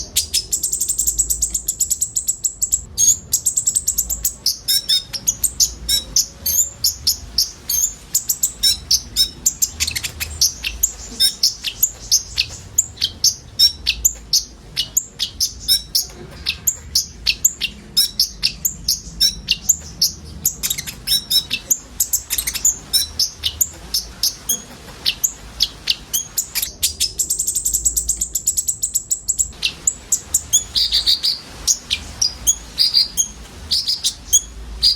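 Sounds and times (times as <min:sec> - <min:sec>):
high rapid bird trill: 0:00.0 - 0:34.9
sunbird chirping and twittering: 0:00.0 - 0:34.9.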